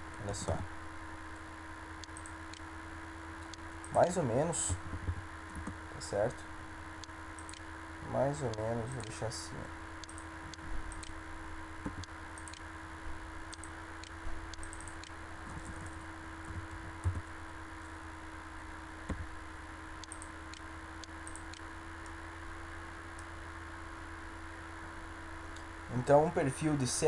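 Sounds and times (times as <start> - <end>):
low electrical hum and hiss: 0.0 - 27.0.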